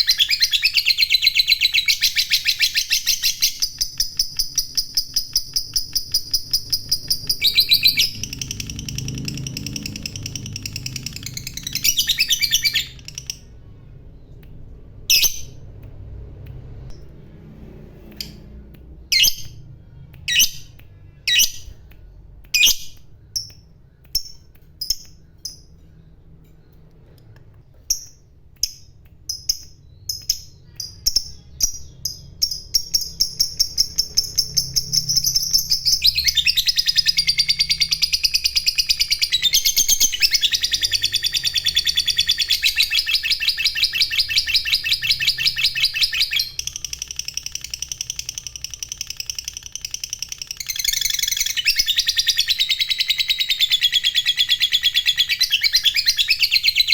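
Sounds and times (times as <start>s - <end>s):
lovebird chirping and trilling: 0.0s - 15.8s, 18.0s - 21.9s, 22.5s - 56.9s.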